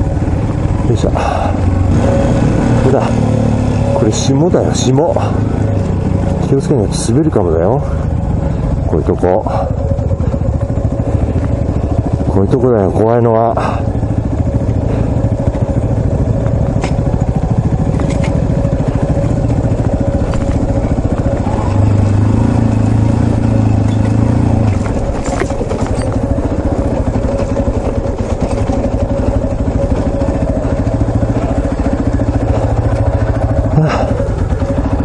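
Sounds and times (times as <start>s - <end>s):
motorcycle engine at low revs: 0.0s - 35.0s.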